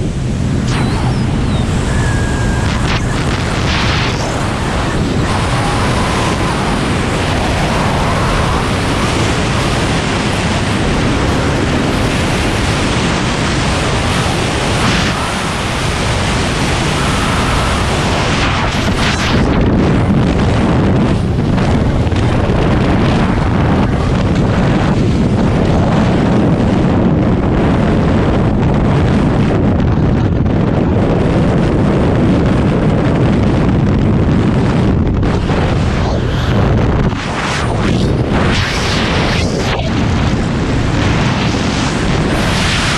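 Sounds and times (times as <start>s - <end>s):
wind rushing over camera: 0.0s - 42.9s.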